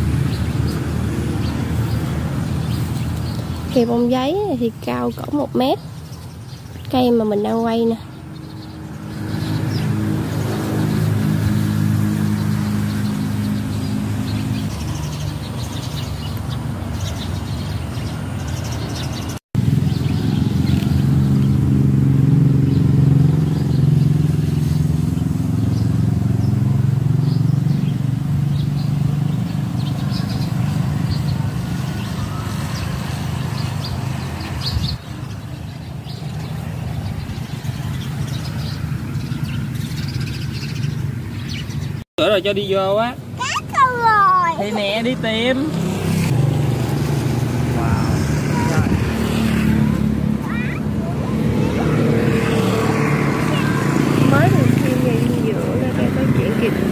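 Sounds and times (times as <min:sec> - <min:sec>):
birds chirping faintly: 0:00.0 - 0:56.9.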